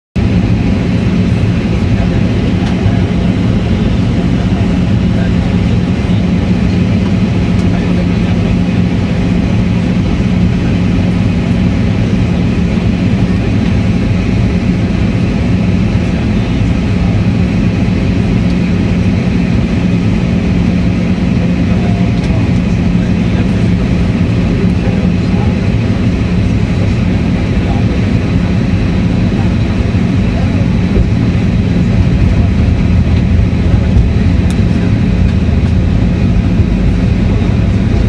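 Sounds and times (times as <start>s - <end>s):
airliner cabin engine rush: 0.2s - 38.0s
constant low hum: 0.2s - 38.0s.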